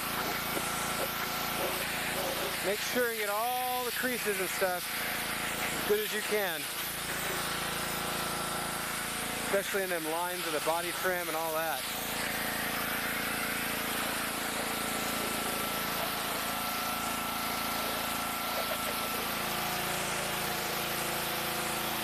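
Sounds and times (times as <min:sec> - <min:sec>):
pressure washer engine hum: 0:00.0 - 0:22.0
water spray hissing: 0:00.0 - 0:22.0.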